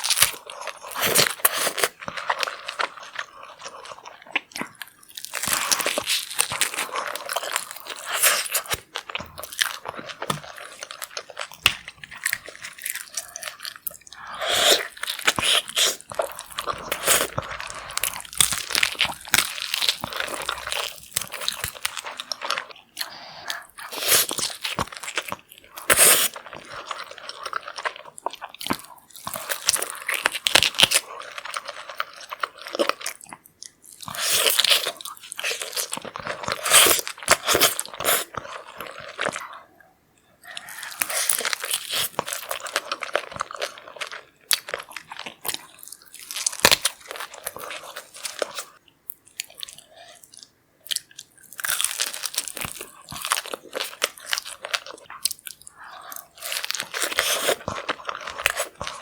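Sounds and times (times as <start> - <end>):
wet crunching and chewing: 0.0 - 59.0.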